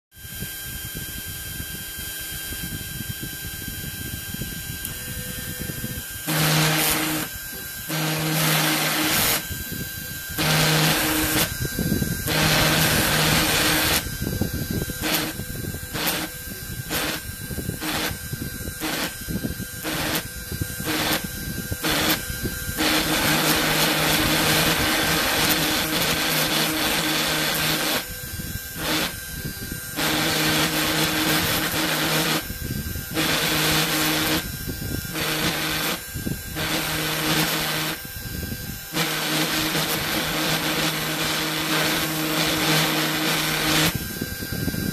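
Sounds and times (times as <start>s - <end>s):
spindle motor humming: 0.2s - 44.9s
engraving bit cutting acrylic: 4.8s - 44.9s.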